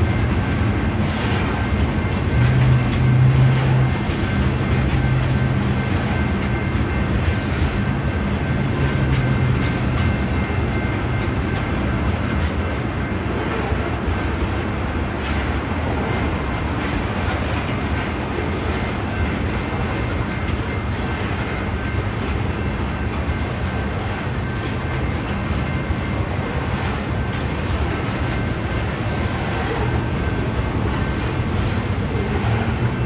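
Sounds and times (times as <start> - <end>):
steel wheels rumbling on rail: 0.0 - 33.0.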